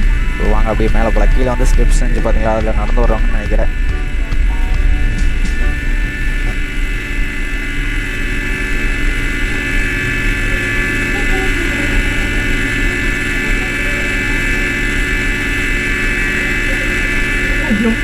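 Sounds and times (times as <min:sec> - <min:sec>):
cable car mechanical hum and whine: 0:00.0 - 0:18.0
low rumble: 0:00.0 - 0:18.0.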